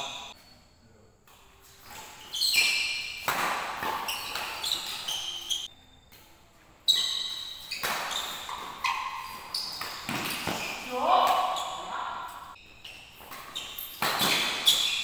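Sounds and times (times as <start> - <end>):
shoes squeaking on court floor: 0.0 - 15.0
racket hitting shuttlecock: 1.2 - 6.3, 6.9 - 15.0.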